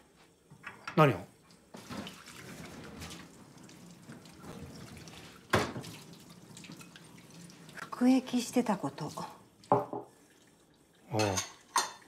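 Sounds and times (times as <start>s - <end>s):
running water: 1.0s - 12.0s.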